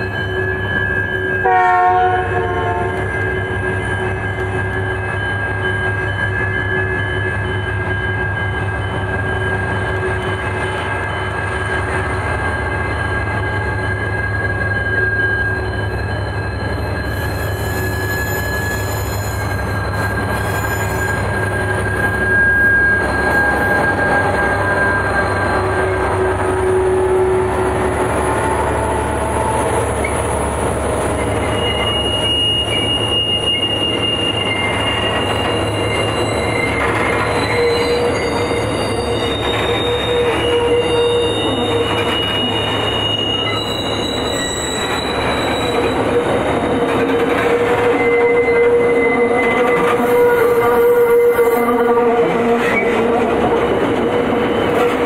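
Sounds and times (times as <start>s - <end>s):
low train rumble: 0.0s - 55.0s
train wheels squealing: 0.0s - 55.0s.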